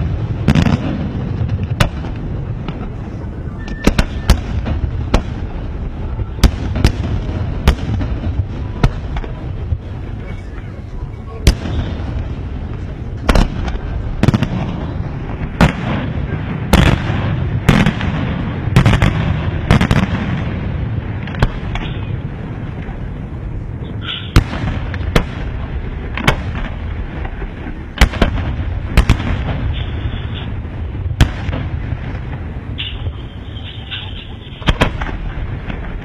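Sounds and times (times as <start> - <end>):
continuous low rumble: 0.0 - 36.0.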